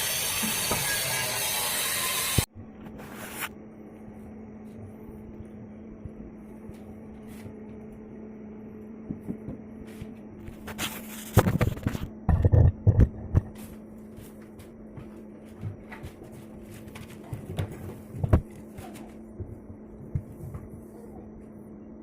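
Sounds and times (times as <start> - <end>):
steady low hum: 2.4 - 22.0.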